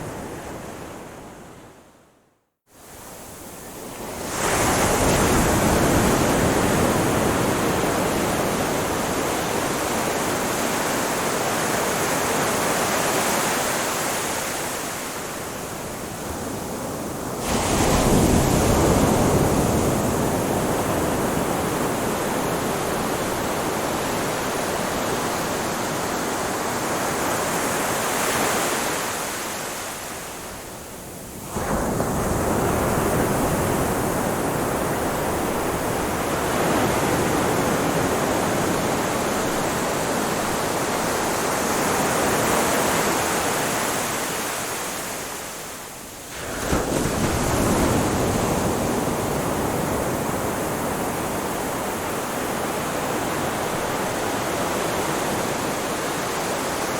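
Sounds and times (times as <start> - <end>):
ocean waves rushing: 3.9 - 30.5, 31.4 - 56.9.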